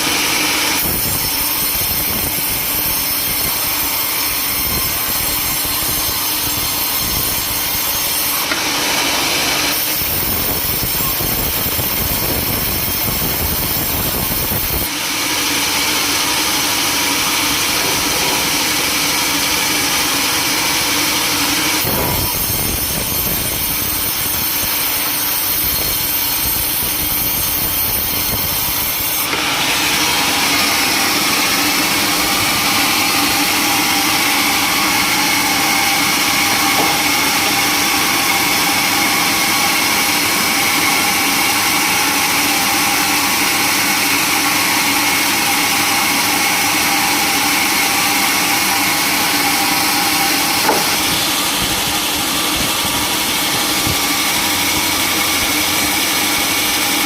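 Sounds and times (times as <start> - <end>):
sawmill saw cutting timber: 0.0 - 57.0.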